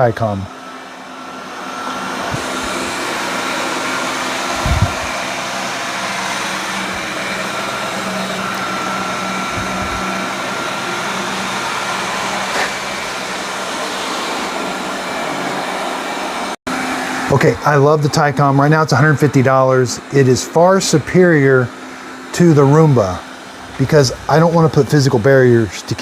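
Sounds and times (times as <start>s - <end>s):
robot vacuum cleaner whirring: 0.0s - 26.0s.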